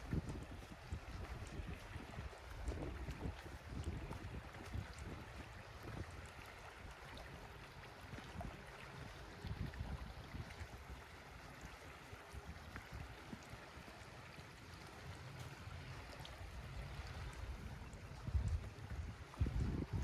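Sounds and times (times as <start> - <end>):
river water rushing: 0.0 - 19.7.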